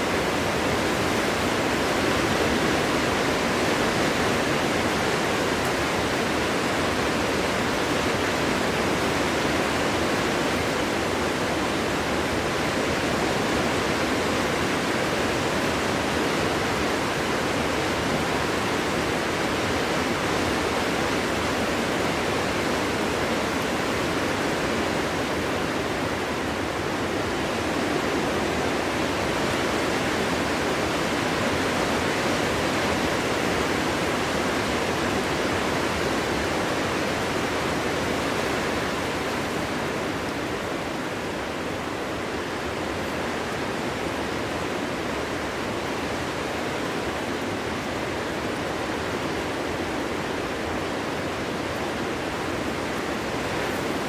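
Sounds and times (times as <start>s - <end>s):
wind blowing through forest: 0.0s - 54.0s.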